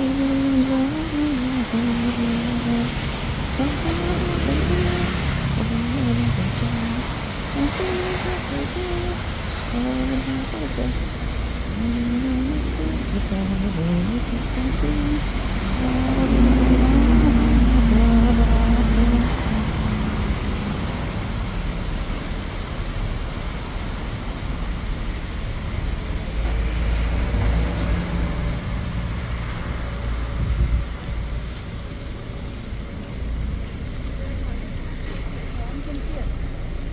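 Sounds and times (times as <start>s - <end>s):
road traffic passing: 0.0s - 36.9s
vehicle engine droning: 0.0s - 36.9s.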